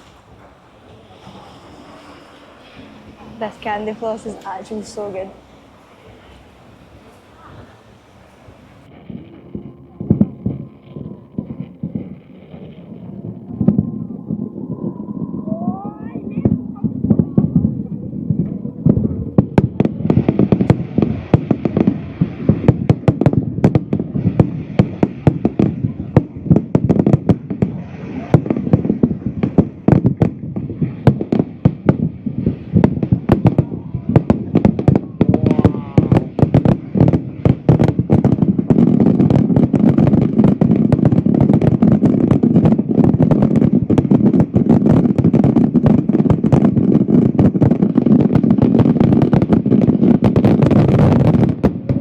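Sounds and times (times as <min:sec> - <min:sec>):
fireworks bursting: 0:00.0 - 0:52.0.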